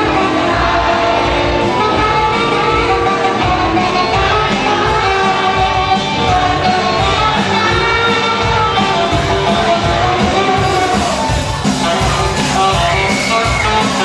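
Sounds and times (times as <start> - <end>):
live rock band playing: 0.0 - 14.0
person singing: 0.0 - 14.0
steady drum beat: 0.0 - 14.0.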